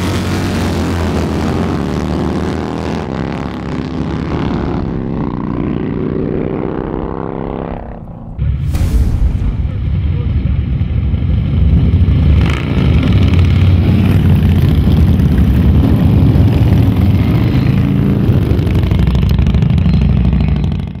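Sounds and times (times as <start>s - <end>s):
motorcycle engines running: 0.0s - 8.4s, 10.0s - 21.0s.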